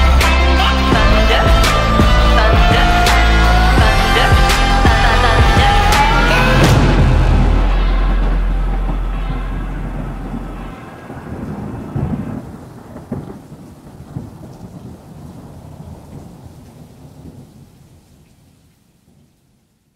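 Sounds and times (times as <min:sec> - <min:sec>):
thunder rumbling: 0:00.0 - 0:18.2
steady rain: 0:00.0 - 0:19.9.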